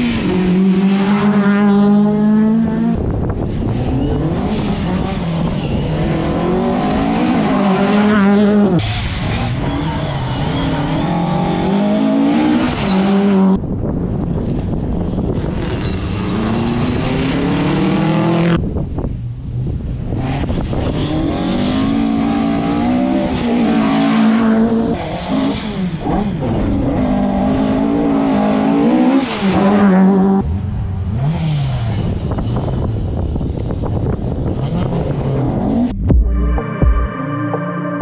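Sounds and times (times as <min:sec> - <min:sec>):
rally car engine revving: 0:00.0 - 0:36.2.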